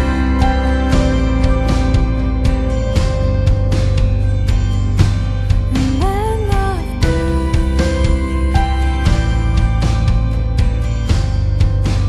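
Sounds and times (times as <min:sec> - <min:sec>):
instrumental music with percussive hits: 0:00.0 - 0:12.0.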